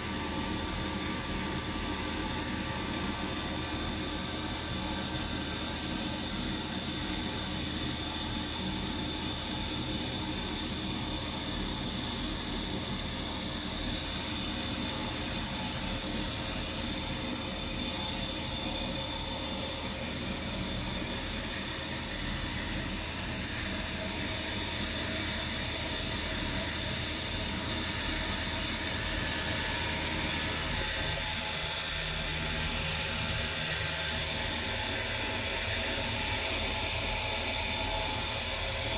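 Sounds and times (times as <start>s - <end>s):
milling spindle whine: 0.0s - 38.9s.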